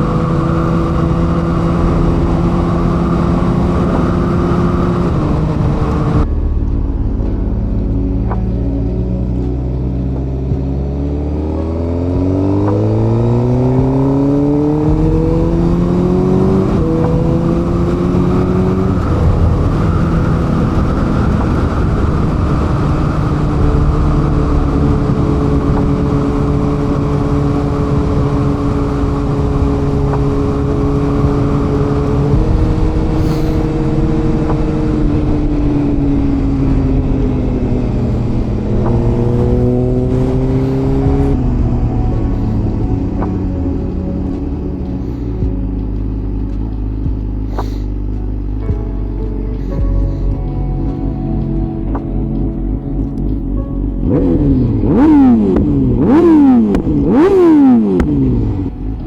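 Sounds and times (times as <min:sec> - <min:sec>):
motorcycle engine accelerating: 0:00.0 - 0:49.0, 0:49.6 - 0:59.0
steady rush of noise: 0:00.0 - 0:59.0.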